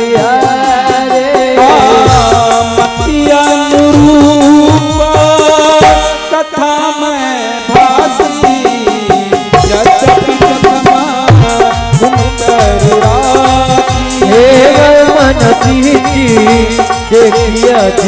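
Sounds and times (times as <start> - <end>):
hand drum rhythm: 0.0 - 6.2, 7.8 - 18.0
harmonium melody: 0.0 - 18.0.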